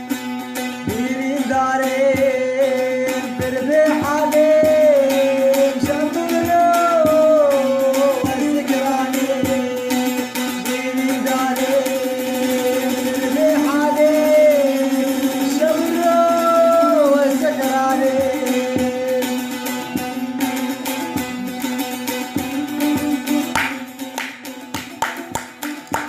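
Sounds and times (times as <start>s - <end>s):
drum strokes: 0.0s - 26.0s
person singing melody: 0.8s - 26.0s.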